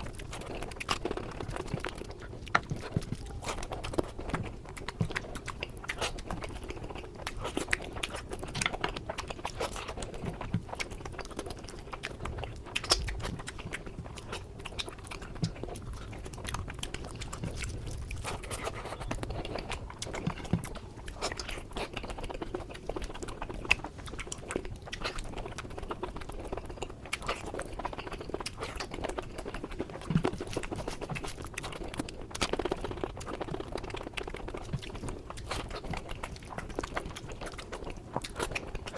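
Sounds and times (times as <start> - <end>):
chewing with crunches: 0.0 - 38.9.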